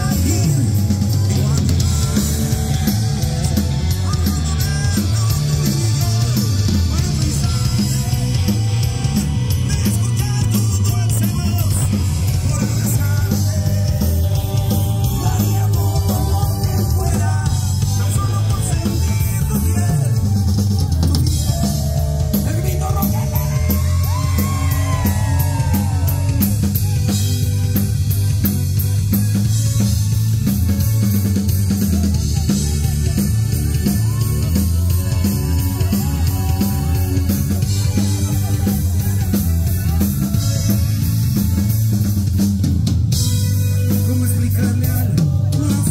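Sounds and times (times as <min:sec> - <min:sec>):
drum kit: 0:00.0 - 0:45.9
electric guitar: 0:00.0 - 0:45.9
live rock band: 0:00.0 - 0:45.9.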